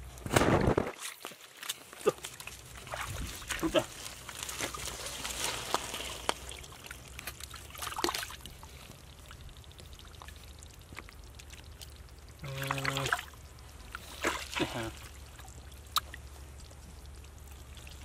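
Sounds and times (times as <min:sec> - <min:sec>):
water splashing: 0:00.5 - 0:18.0
hands squelching in wet mud: 0:00.8 - 0:13.3, 0:13.9 - 0:16.3.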